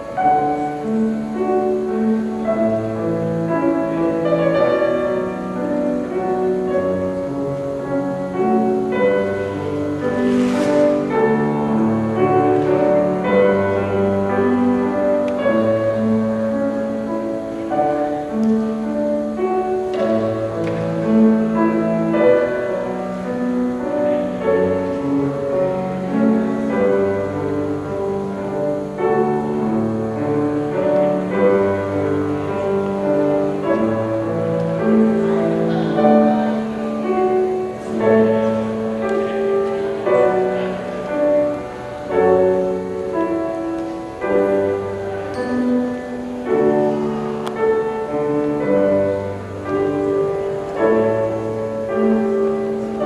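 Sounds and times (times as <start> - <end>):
slow classical music: 0.0 - 53.0.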